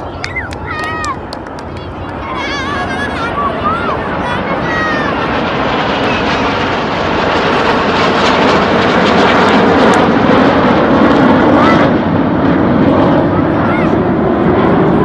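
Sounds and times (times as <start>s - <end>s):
airplane engine flying past: 0.0s - 15.0s.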